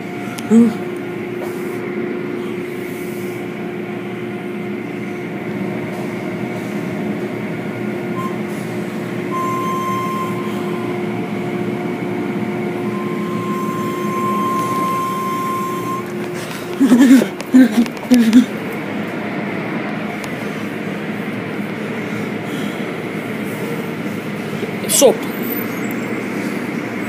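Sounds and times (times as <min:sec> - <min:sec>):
high steady whine: 0:00.0 - 0:27.0
machine hum: 0:00.0 - 0:27.0.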